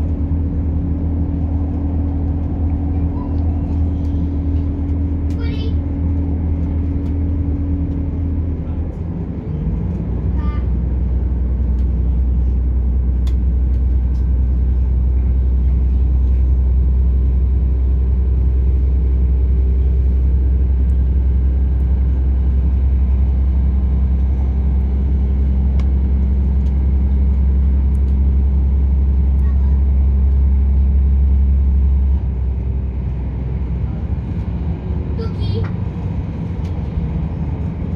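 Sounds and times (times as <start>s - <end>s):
train diesel engine drone: 0.0s - 37.9s
train running noise: 0.0s - 37.9s.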